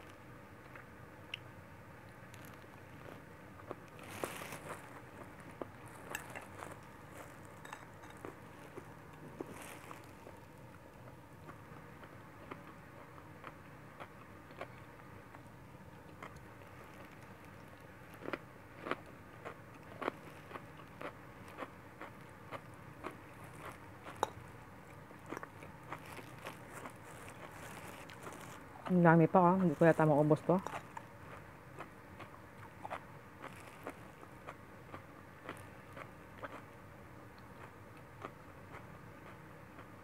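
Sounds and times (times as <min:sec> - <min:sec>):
person chewing food: 0:02.2 - 0:29.0, 0:30.6 - 0:40.0.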